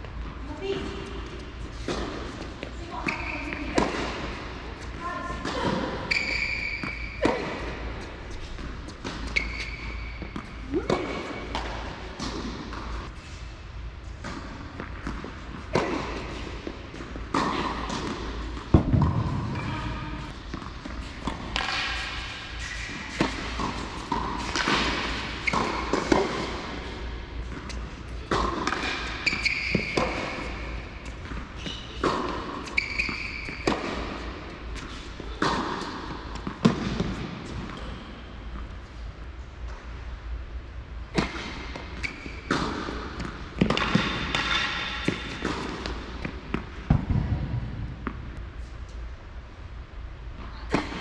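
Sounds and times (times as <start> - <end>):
tennis balls bouncing on court: 0.0 - 13.1, 14.2 - 38.8, 41.1 - 48.4
tennis balls struck by rackets: 1.1 - 13.1, 14.2 - 19.6, 20.2 - 37.8, 41.1 - 48.3.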